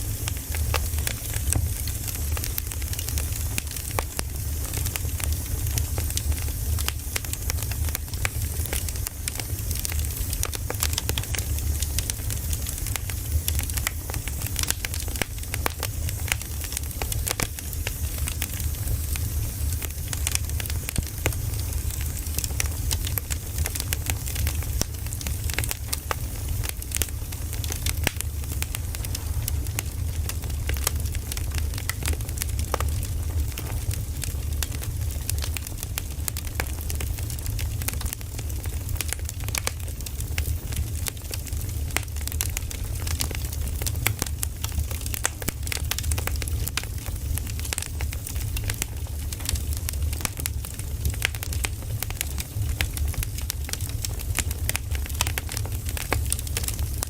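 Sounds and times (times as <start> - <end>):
campfire crackling: 0.0 - 57.0
low rumble of fire: 0.0 - 57.0.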